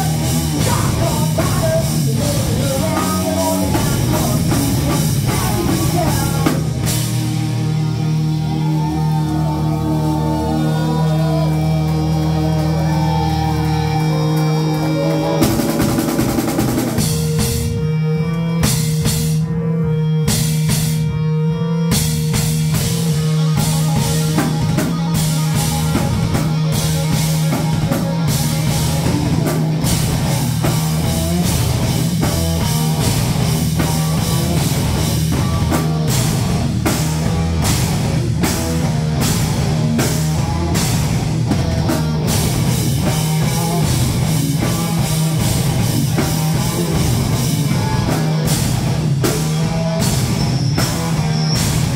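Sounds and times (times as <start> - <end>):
drum kit: 0.0 - 19.5, 20.2 - 21.2, 21.9 - 51.9
electric guitars: 0.0 - 51.9.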